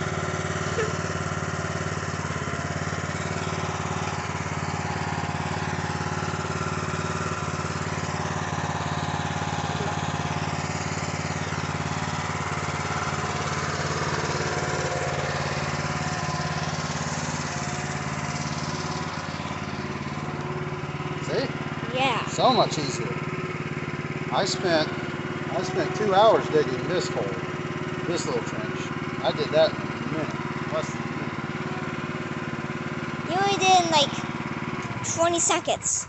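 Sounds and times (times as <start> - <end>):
small gas engine running: 0.0 - 36.0.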